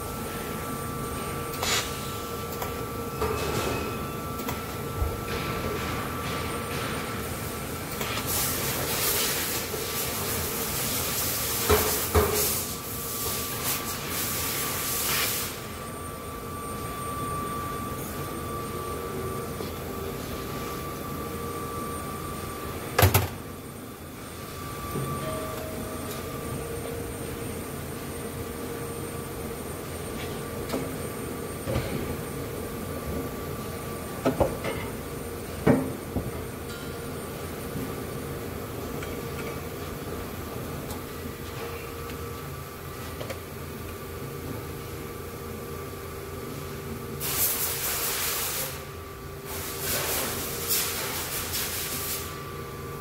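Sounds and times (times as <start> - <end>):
factory hall hum: 0.0 - 53.0.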